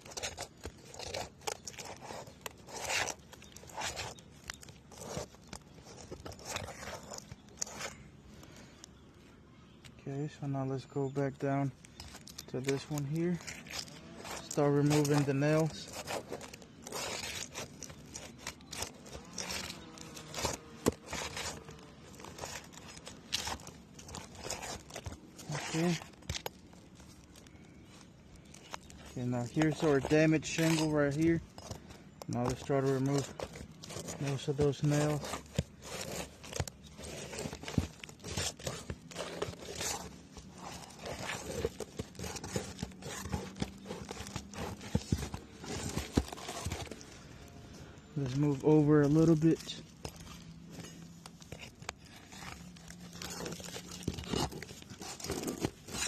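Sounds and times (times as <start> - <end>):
roof shingles scraping and crackling: 0.0 - 8.8, 10.8 - 56.0.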